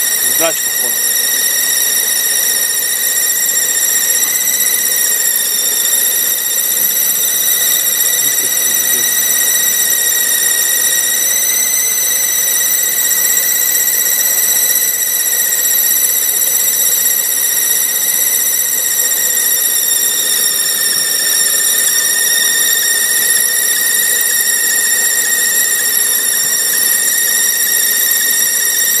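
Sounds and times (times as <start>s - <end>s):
power steering pump whistling: 0.0s - 29.0s.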